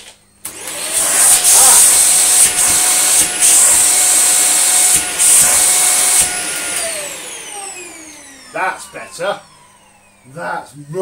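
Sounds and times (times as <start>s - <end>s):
vacuum cleaner whine and hiss: 0.0s - 11.0s.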